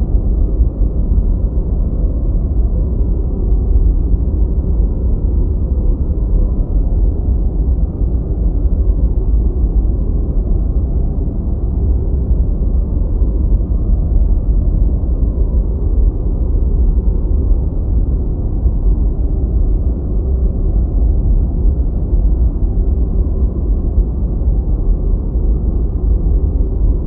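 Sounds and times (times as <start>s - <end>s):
deep white noise: 0.0s - 27.0s.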